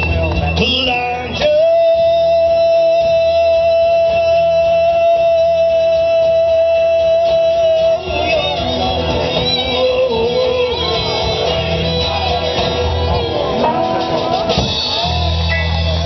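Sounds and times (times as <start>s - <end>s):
band playing with guitar: 0.0s - 16.0s.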